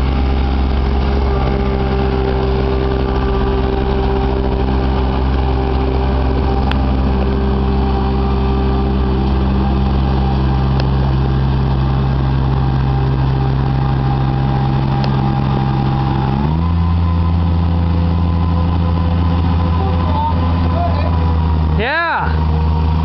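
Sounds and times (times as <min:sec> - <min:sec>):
diesel engine running: 0:00.0 - 0:23.0
mechanical whine: 0:00.0 - 0:23.0.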